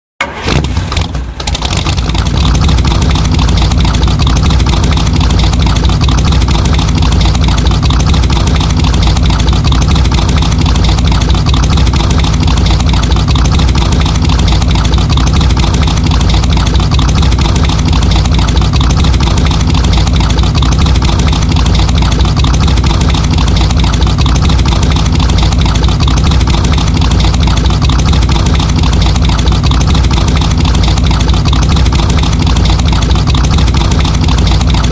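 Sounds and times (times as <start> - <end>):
car engine deep idle: 0.2 - 34.9.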